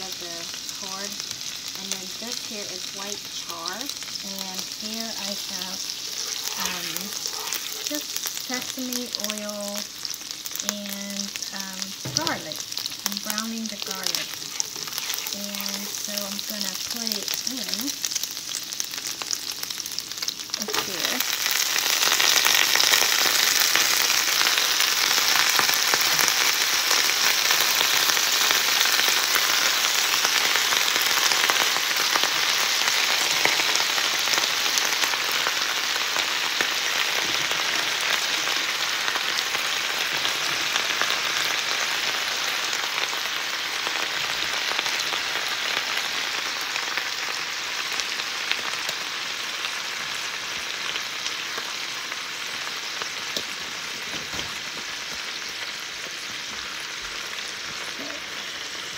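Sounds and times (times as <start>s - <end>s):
greens sizzling in hot oil: 0.0s - 58.9s.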